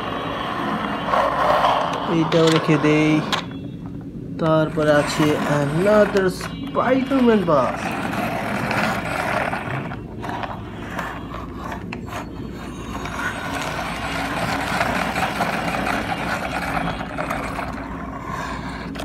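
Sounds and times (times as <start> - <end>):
toy wheels rattling scrape: 0.0 - 3.5, 4.6 - 19.0.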